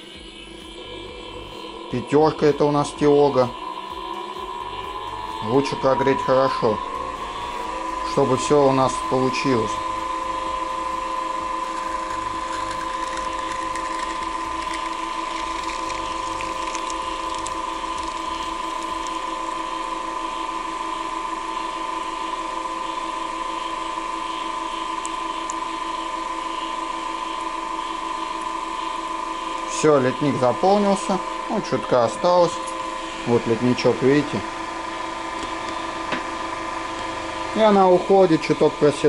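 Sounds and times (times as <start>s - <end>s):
high motor whine: 0.0s - 39.0s.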